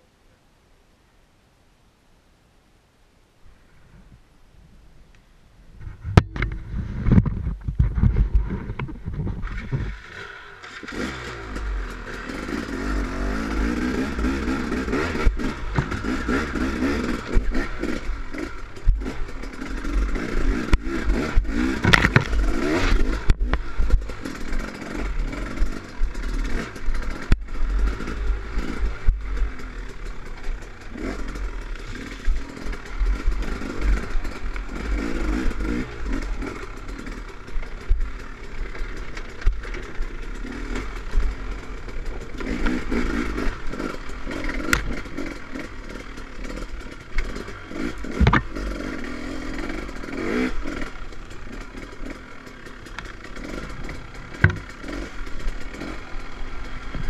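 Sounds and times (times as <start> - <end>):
motorbike clattering over bumps: 5.9 - 57.0
two-stroke motorbike engine revving: 8.4 - 57.0.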